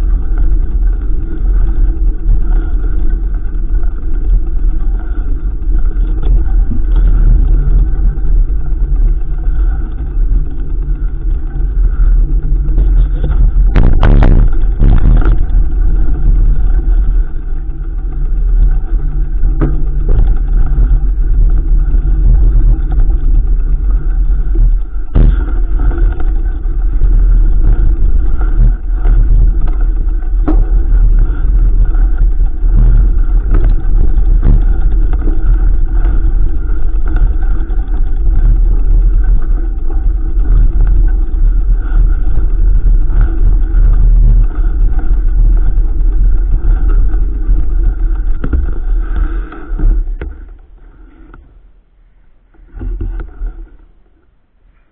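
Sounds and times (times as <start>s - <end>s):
bike knocking and rattling: 0.0s - 51.7s, 52.4s - 54.9s
wind rumble on microphone: 0.0s - 54.9s.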